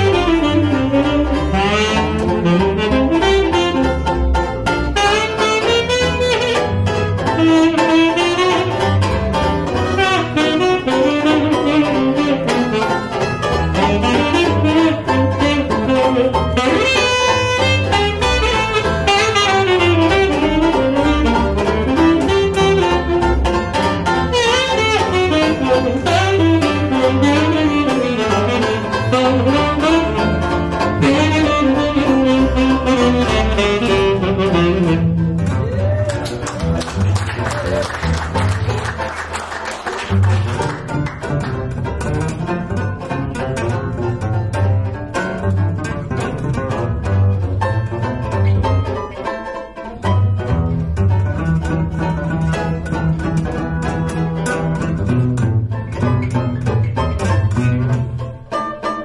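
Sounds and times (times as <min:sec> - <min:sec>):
tenor saxophone: 0:00.0 - 0:48.8
plucked double bass: 0:00.0 - 0:59.0
strummed banjo: 0:00.0 - 0:59.0.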